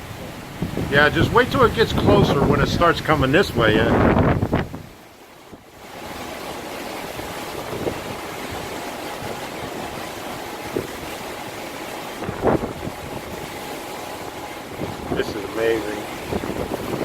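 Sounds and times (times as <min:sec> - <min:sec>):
strong wind rushing: 0:00.0 - 0:05.0, 0:07.0 - 0:17.0.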